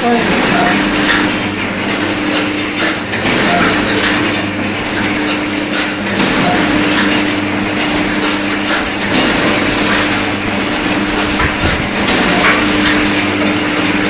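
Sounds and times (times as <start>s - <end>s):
machine motor hum: 0.0s - 14.0s
mechanical clicks and knocks: 0.3s - 14.0s.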